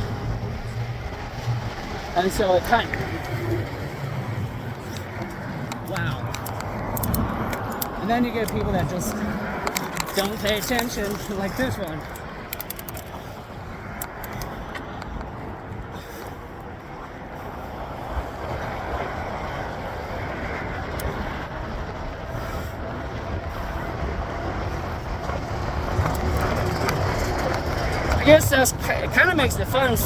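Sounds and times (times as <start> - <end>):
road traffic rushing past: 0.0 - 30.0.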